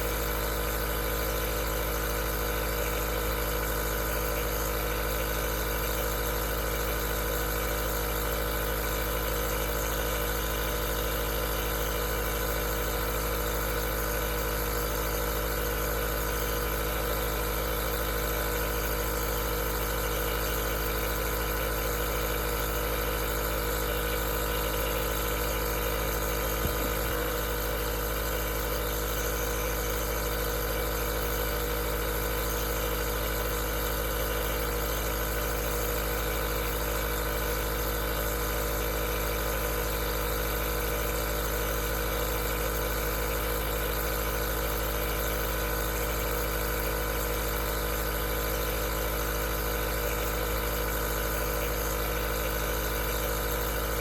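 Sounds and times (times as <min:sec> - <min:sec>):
nebulizer humming and hissing: 0:00.0 - 0:54.0.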